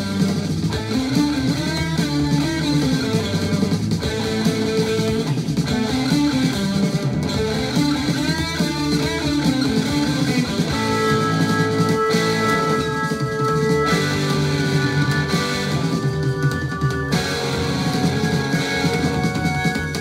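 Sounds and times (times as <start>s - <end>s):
rock music from a record: 0.0s - 20.0s.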